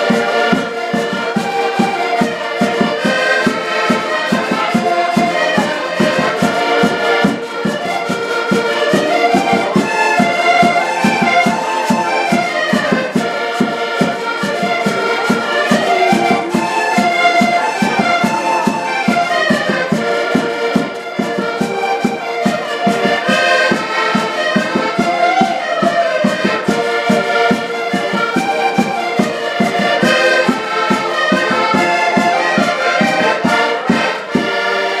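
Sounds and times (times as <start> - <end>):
accordions playing dance tune: 0.0 - 35.0.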